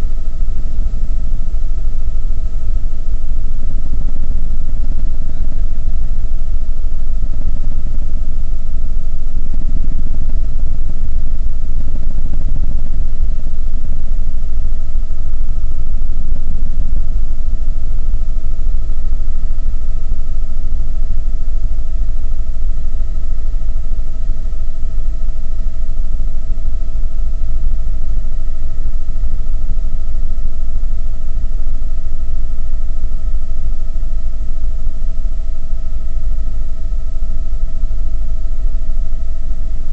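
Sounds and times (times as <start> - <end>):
high whine: 0.0 - 39.9.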